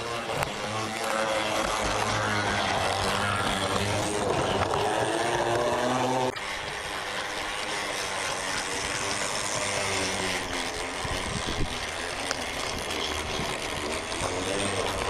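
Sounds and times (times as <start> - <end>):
model railcar motor whirring: 0.0 - 15.0.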